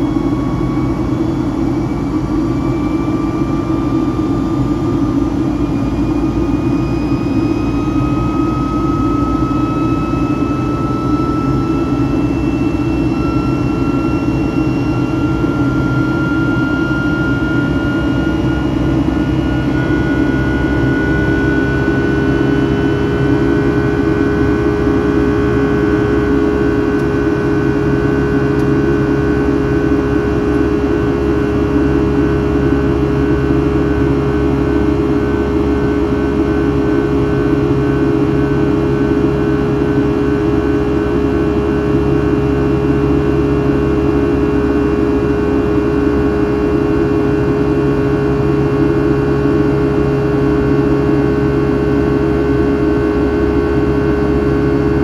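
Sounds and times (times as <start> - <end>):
high engine whine: 0.0 - 55.0
jet engine rush in cabin: 0.0 - 55.0
low engine hum: 0.0 - 55.0.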